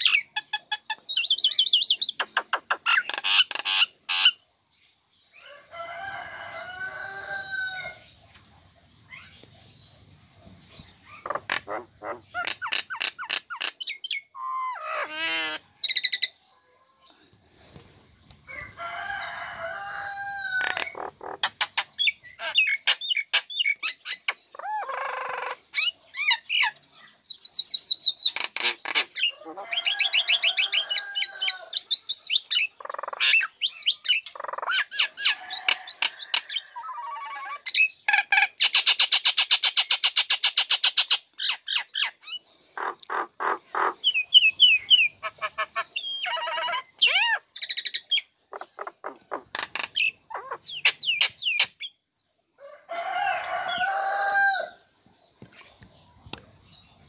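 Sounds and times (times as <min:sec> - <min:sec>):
myna bird singing: 0:00.0 - 0:57.0.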